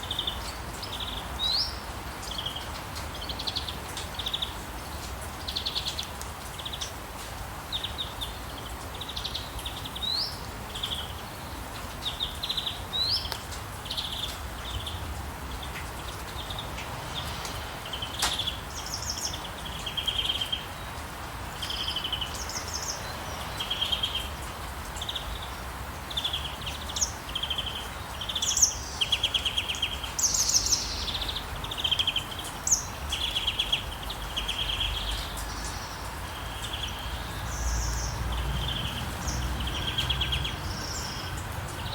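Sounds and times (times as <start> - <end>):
outdoor background hiss: 0.0 - 41.9
songbirds chirping and singing: 7.6 - 41.9.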